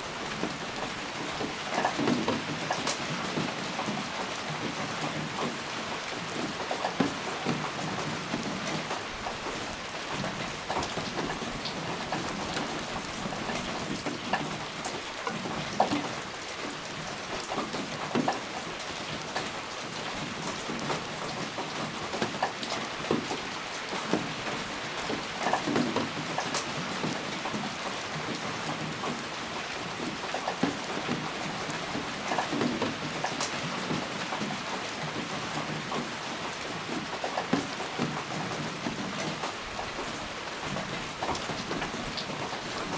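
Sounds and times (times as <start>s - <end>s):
raindrops pattering: 0.0s - 42.9s
steady rain: 0.0s - 42.9s.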